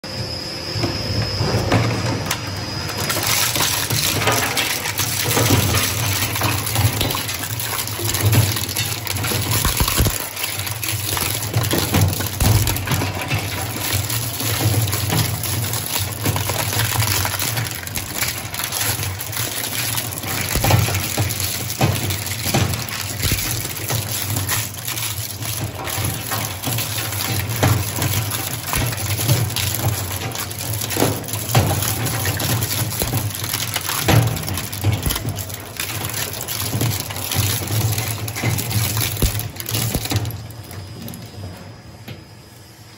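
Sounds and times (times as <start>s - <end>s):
shredder crunching plastic: 1.6s - 41.2s
clatter of breaking pieces: 1.7s - 41.3s.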